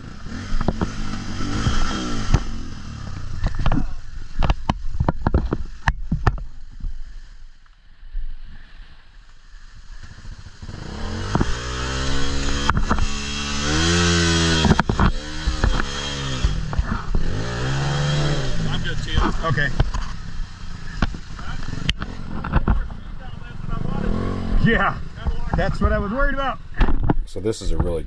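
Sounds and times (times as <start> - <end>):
motorcycle engine revving: 0.0 - 6.8, 9.6 - 27.1.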